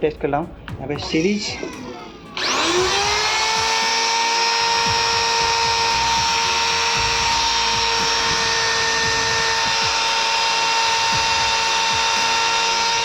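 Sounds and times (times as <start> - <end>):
angle grinder motor whine: 1.0 - 13.0.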